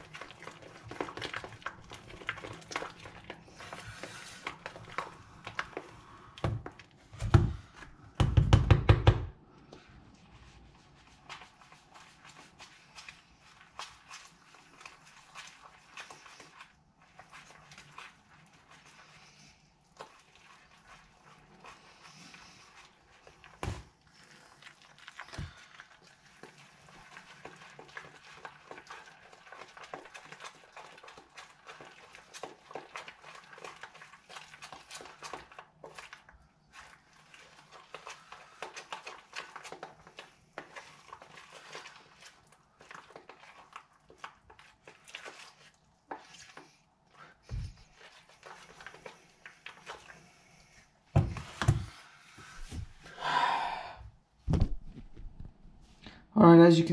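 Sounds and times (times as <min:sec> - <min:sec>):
stirring thick mixture in tub: 0:00.0 - 0:56.9.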